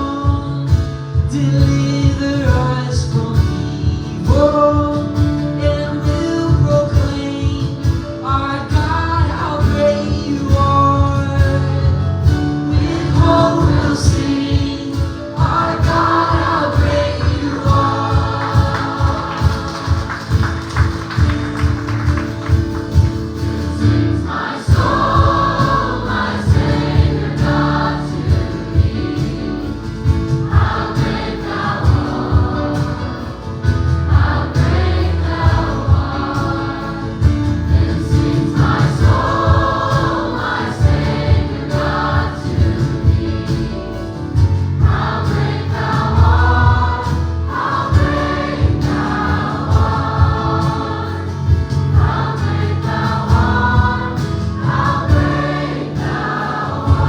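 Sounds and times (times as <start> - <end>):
live band with bass line: 0.0 - 57.0
gospel choir singing: 7.8 - 57.0.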